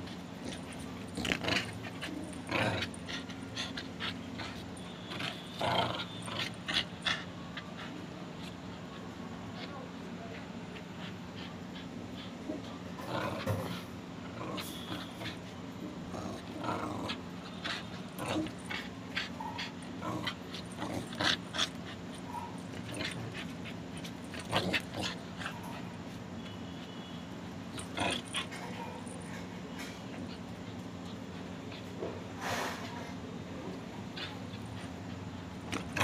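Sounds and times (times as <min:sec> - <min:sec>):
puppy growling: 0:00.0 - 0:26.4, 0:27.4 - 0:32.8, 0:33.4 - 0:36.0.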